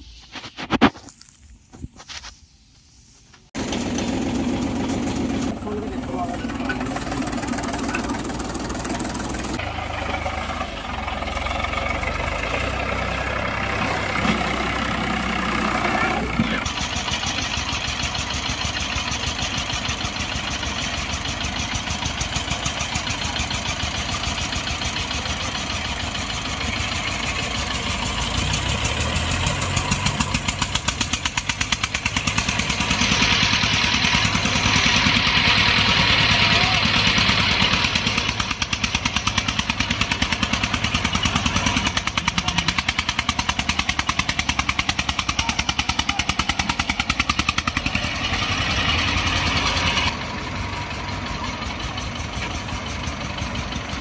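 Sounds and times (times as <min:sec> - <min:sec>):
diesel tractor engine running: 0:03.6 - 0:54.0.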